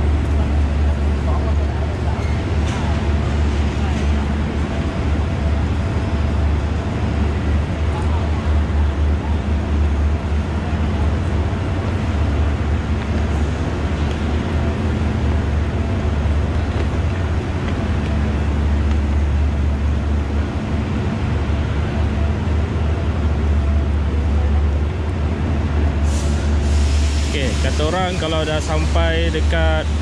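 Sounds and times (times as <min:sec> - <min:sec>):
diesel train idling: 0:00.0 - 0:30.0.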